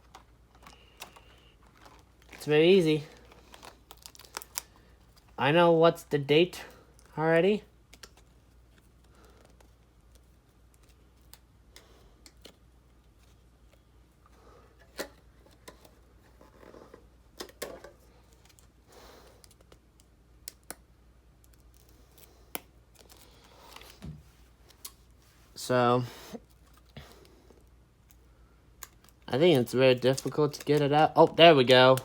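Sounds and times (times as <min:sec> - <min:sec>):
soft plastic rustling: 0:00.0 - 0:05.4, 0:07.8 - 0:20.1, 0:21.4 - 0:32.0.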